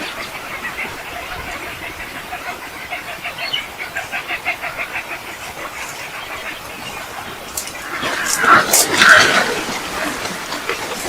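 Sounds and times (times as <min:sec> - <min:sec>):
birds calling: 0:00.0 - 0:11.0
rapid repeated bird notes: 0:00.0 - 0:11.0.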